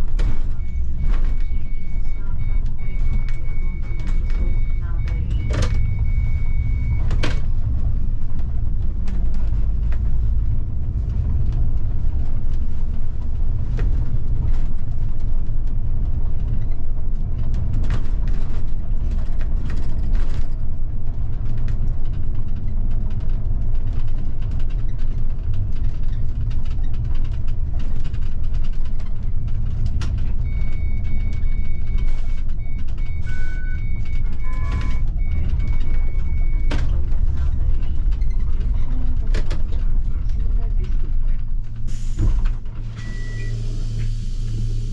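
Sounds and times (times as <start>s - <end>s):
bus engine and road rumble: 0.0s - 44.9s.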